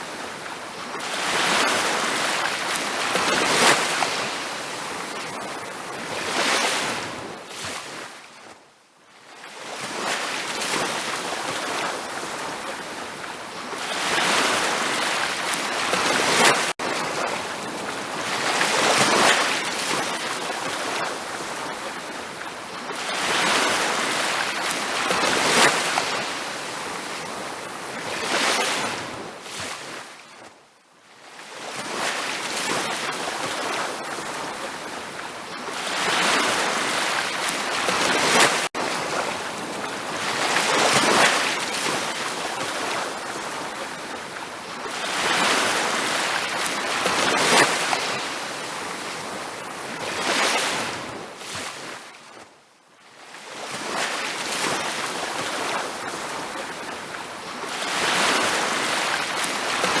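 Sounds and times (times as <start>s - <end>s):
ocean waves breaking on a beach: 0.0s - 60.0s.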